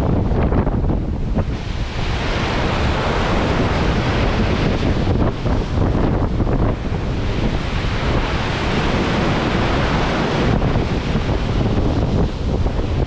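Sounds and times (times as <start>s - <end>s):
heavy waves rushing: 0.0s - 13.0s
wind buffeting microphone: 0.0s - 13.0s.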